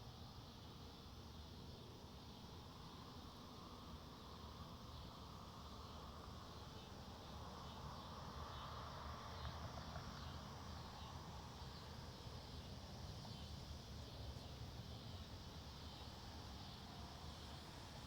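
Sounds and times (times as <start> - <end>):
insect hum: 0.0 - 18.0.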